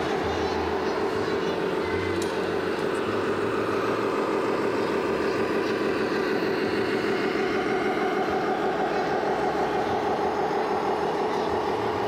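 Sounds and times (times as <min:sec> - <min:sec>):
simulated diesel truck engine: 0:00.0 - 0:12.0.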